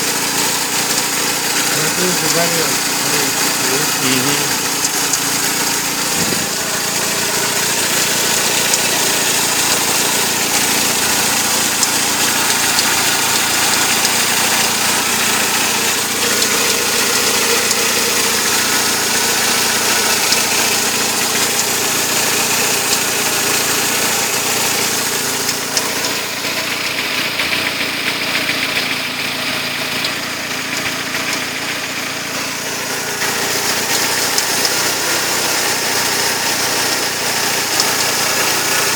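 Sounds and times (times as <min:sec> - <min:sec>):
car engine idling: 0:00.0 - 0:38.9
engine clicking: 0:00.0 - 0:38.9.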